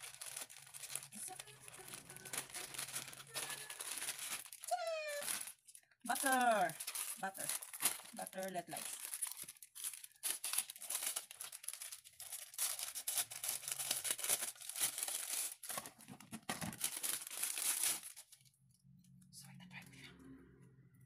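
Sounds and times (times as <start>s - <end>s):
plastic packaging crinkling: 0.0s - 18.6s.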